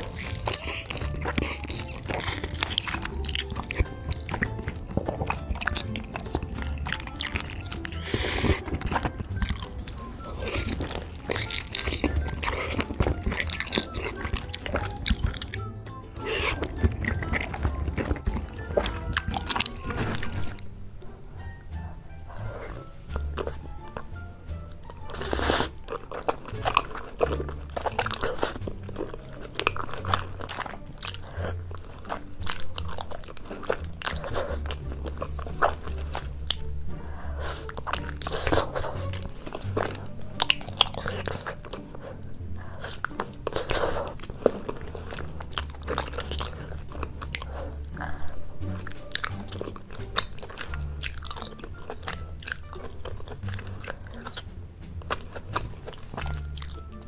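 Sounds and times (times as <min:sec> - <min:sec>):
chewing and slurping: 0:00.0 - 0:57.0
mouth clicks and smacks: 0:00.0 - 0:57.0
soft background music: 0:00.0 - 0:57.0.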